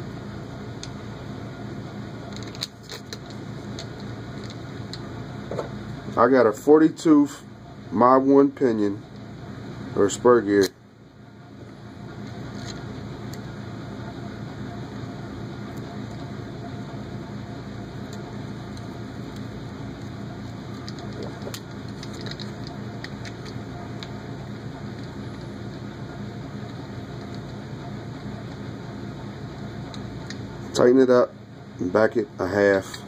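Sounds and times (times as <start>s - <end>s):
fan humming: 0.0s - 33.0s.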